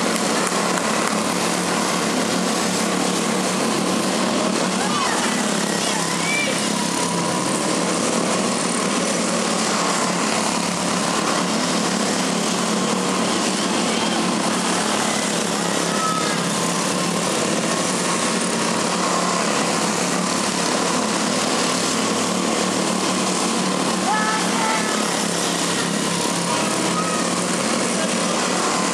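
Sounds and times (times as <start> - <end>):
small race car engines droning: 0.0 - 28.9.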